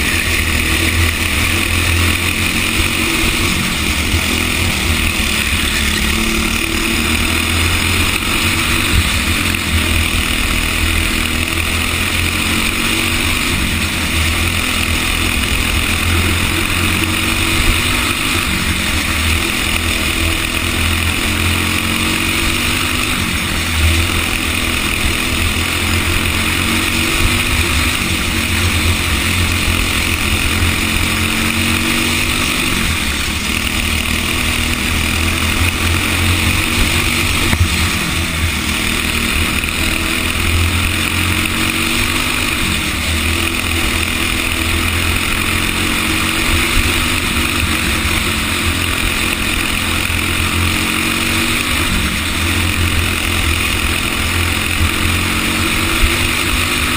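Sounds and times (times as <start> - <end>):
racing kart engine: 0.0 - 56.9.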